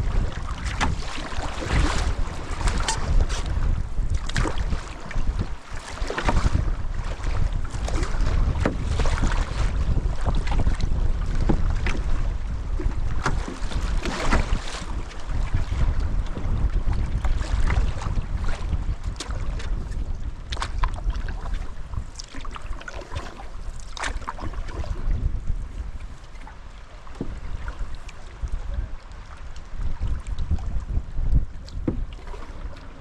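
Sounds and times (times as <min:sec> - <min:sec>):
strong wind buffeting microphone: 0:00.0 - 0:33.0
water splashing and sloshing: 0:00.0 - 0:33.0.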